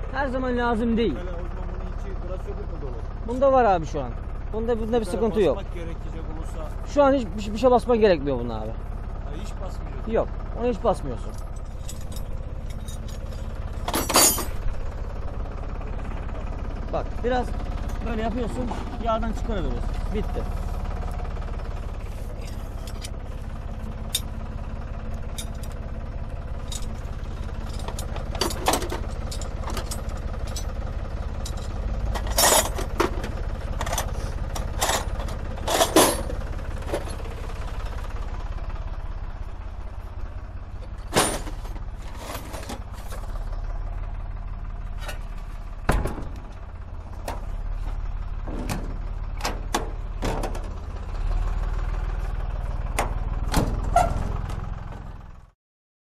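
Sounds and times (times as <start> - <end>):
tractor engine idling: 0.0 - 55.6.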